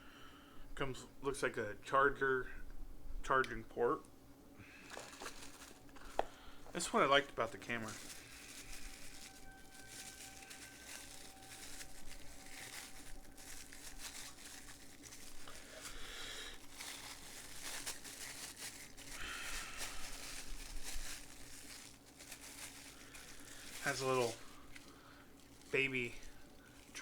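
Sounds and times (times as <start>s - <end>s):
plastic packaging crinkling: 4.6s - 27.0s
plastic tearing: 4.8s - 27.0s.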